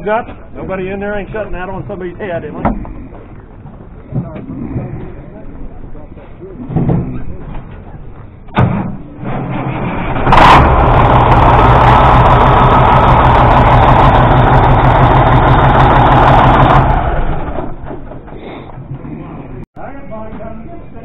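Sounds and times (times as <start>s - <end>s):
diesel engine starting and running: 0.0s - 19.7s.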